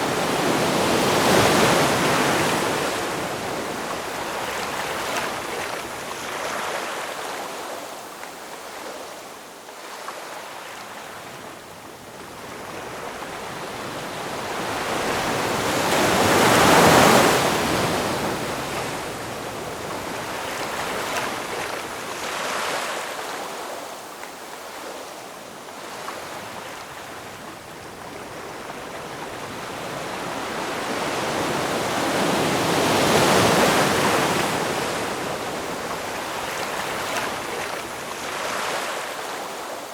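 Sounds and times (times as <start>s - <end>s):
ocean waves breaking: 0.0s - 9.2s, 12.3s - 25.2s, 25.8s - 39.9s.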